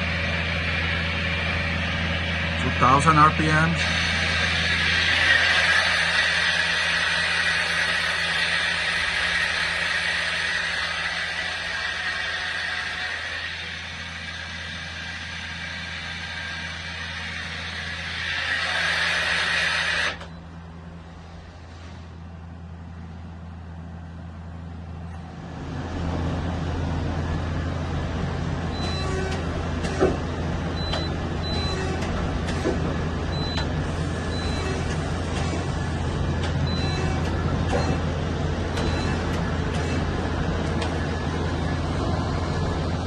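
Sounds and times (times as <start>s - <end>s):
lathe drive spinning: 0.0s - 21.1s, 25.2s - 43.0s.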